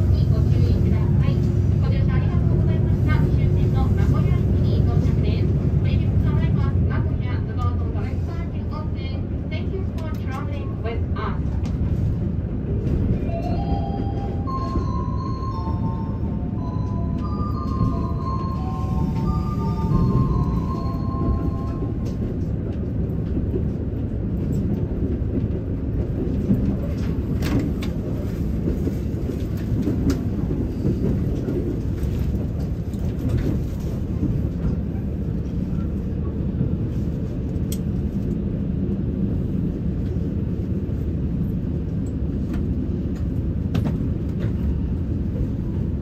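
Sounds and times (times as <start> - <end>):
railcar engine and wheels rumbling: 0.0 - 46.0.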